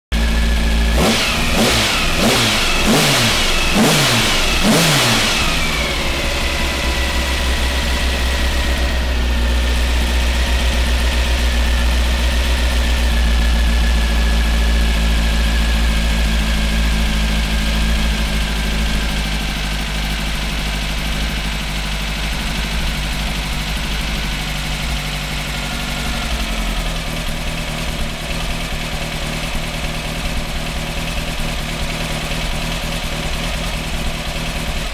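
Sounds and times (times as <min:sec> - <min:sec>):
car engine idling: 0:00.1 - 0:34.9
car engine revving: 0:00.2 - 0:34.9.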